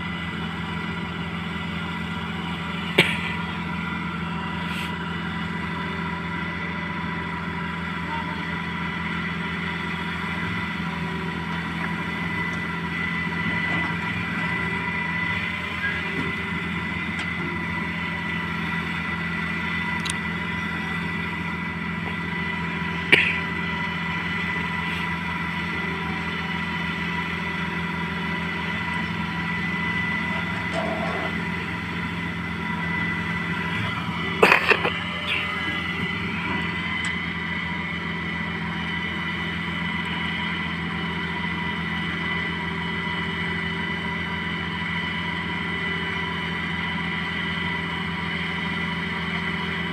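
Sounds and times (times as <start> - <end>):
constant whine: 0.0 - 49.9
excavator diesel engine running: 0.0 - 49.9.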